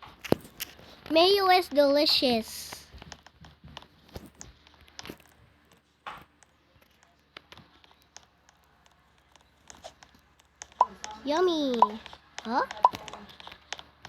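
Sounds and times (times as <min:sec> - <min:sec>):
faint clicks and taps: 0:00.0 - 0:14.0.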